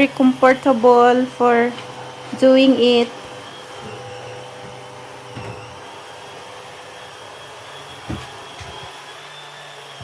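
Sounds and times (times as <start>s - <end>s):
steam mop motor running: 0.0s - 10.0s.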